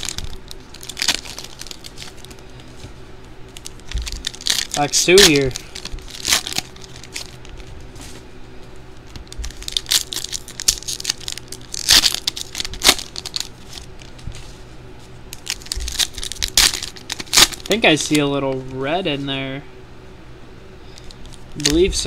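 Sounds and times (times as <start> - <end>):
wrappers crinkling and tearing: 0.0 - 8.2, 8.9 - 14.6, 15.3 - 18.8, 21.0 - 22.0.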